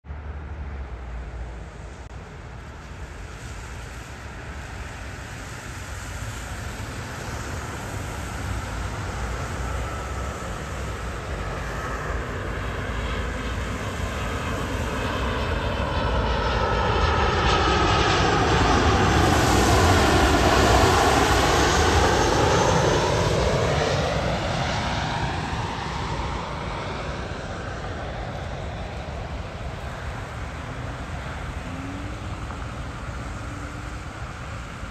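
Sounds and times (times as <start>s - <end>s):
jet airliner passing overhead: 0.1s - 34.9s
thin engine whine: 5.2s - 34.9s.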